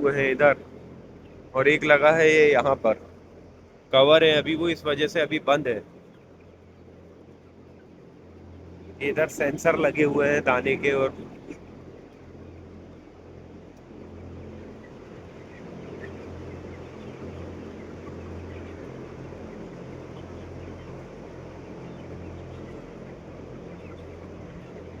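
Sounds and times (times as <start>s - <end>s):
chickens clucking and cheeping: 0.0s - 25.0s
ventilation fans humming: 0.0s - 25.0s.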